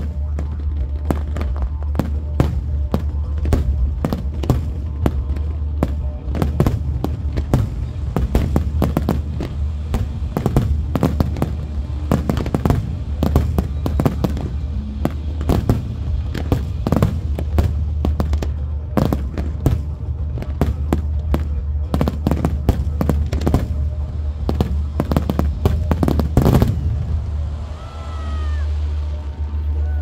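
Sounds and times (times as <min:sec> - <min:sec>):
music on loudspeakers: 0:00.0 - 0:27.1
fireworks bangs and crackles: 0:00.0 - 0:30.0.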